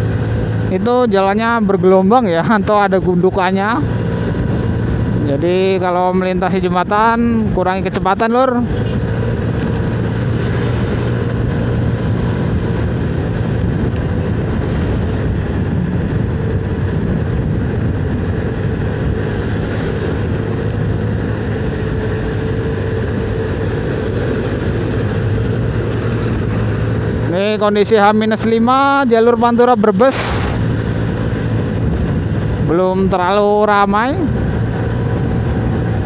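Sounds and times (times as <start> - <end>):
road and wind noise: 0.0 - 36.0
scooter engine hum: 0.0 - 36.0.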